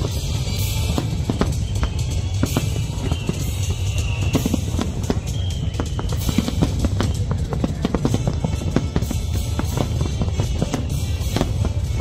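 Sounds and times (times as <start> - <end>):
fireworks rumbling and banging: 0.0 - 12.0
music with fast drum beat: 0.0 - 12.0.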